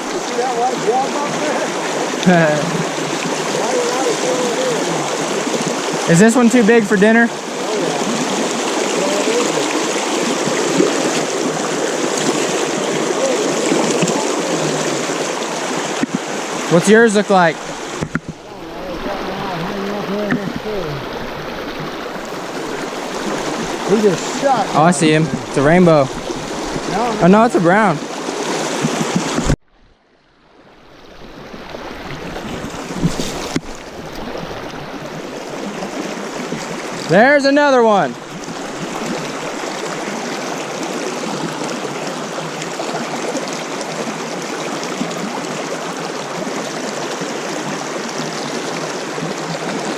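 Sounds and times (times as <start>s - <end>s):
stream water rushing and gurgling: 0.0s - 49.9s.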